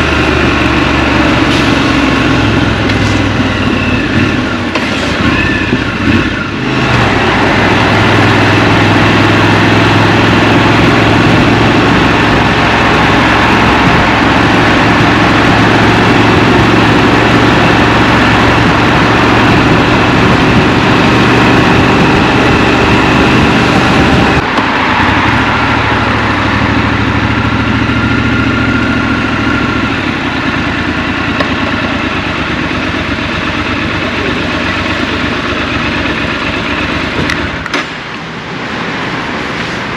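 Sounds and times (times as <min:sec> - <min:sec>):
motorcycle engine running: 0:00.0 - 0:38.5
road noise: 0:00.0 - 0:39.9.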